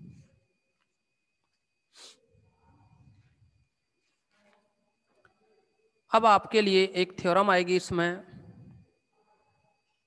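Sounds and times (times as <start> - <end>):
faint high-pitched whine: 0.0 - 10.0.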